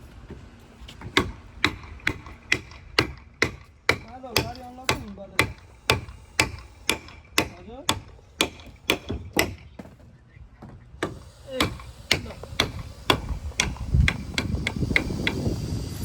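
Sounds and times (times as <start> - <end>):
hammer blows on wood: 1.0 - 15.8.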